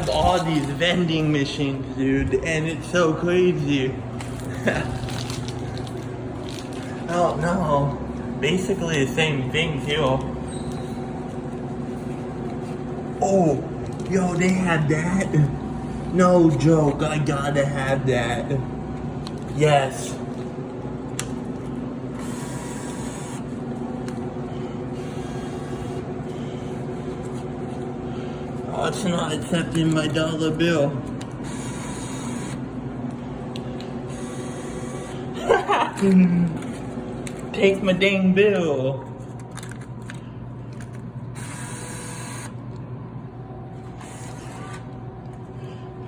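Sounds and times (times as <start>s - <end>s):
bill acceptor whirring: 0.0s - 38.2s, 39.4s - 46.0s
vending machine hum: 0.0s - 46.0s.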